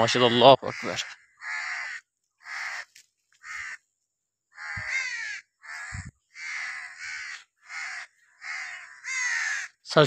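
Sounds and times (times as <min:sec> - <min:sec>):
crows cawing: 0:00.0 - 0:10.0.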